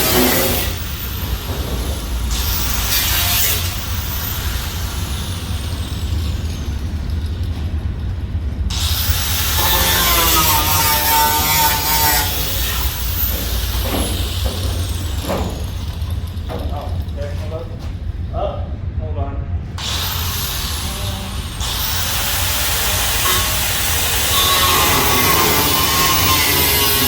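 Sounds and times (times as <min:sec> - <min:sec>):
power cutting tool cutting sheet metal: 0:00.0 - 0:06.8, 0:08.7 - 0:16.4, 0:19.8 - 0:27.0.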